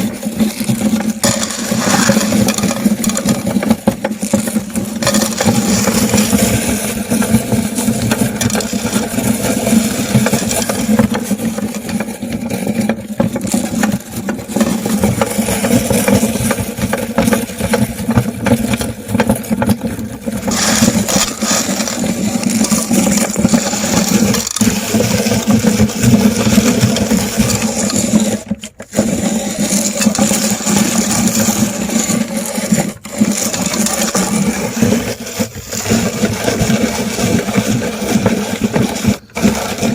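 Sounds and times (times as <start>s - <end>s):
electric meat grinder motor humming: 0.0s - 12.3s, 19.9s - 39.9s
candy grinding and rattling: 0.0s - 39.9s.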